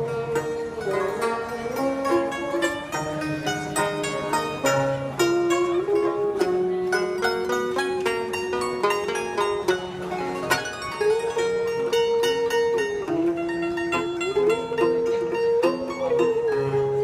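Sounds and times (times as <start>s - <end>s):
quick plucked string notes: 0.0s - 17.0s
sliding held melody line: 0.0s - 17.0s.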